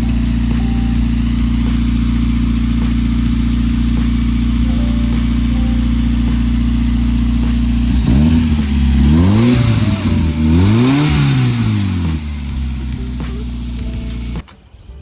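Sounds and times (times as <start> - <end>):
car engine idling and revving: 0.0 - 14.4.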